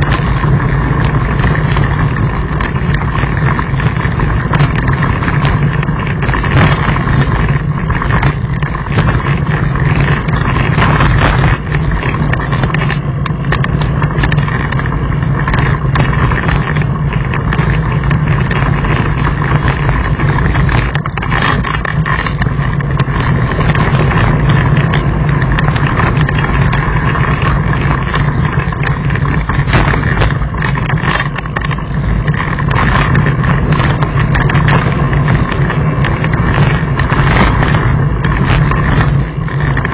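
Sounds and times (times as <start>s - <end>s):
bike rattling and knocking: 0.0s - 39.9s
bike rumbling over gravel: 0.0s - 39.9s
wind on microphone: 0.0s - 39.9s.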